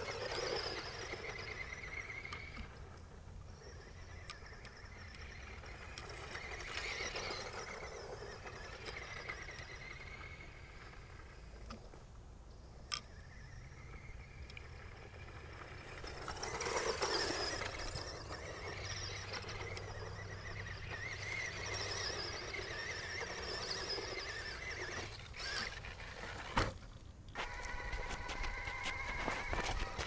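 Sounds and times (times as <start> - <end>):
electric motor whine: 0.0 - 11.8, 12.9 - 30.0.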